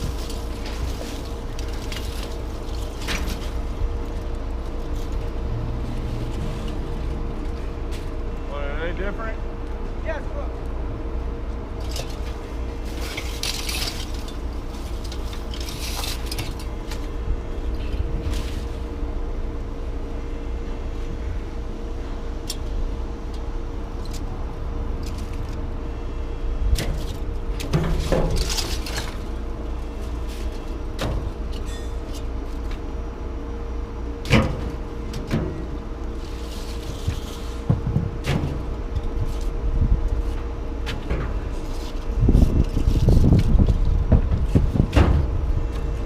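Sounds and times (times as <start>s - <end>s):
vehicle engine rumbling: 0.0s - 46.0s.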